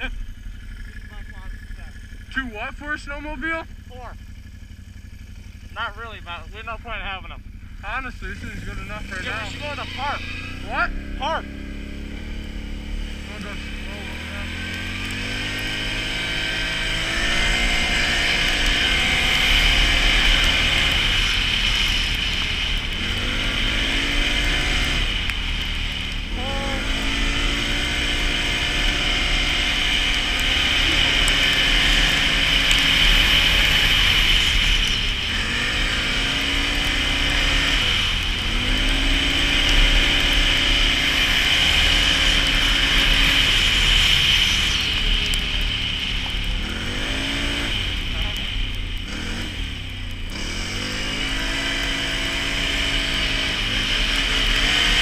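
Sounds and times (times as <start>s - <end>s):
atv engine revving: 0.0s - 55.0s
steady high whine: 0.0s - 55.0s.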